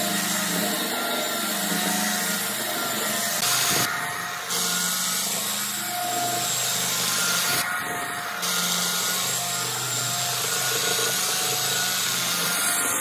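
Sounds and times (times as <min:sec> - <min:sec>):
power tool cutting wood: 0:00.0 - 0:13.0.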